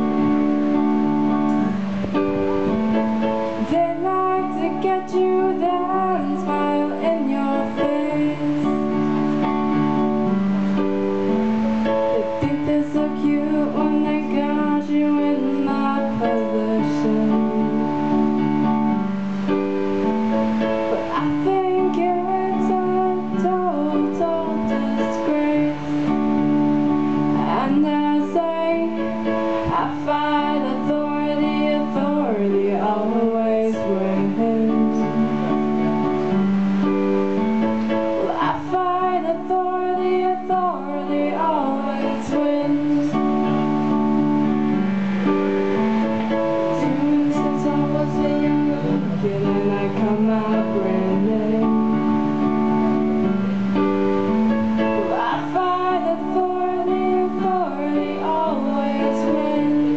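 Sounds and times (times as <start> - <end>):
person singing: 0.0 - 19.5, 20.1 - 36.3, 38.0 - 53.9, 54.7 - 59.9
keyboard playing: 0.0 - 59.9.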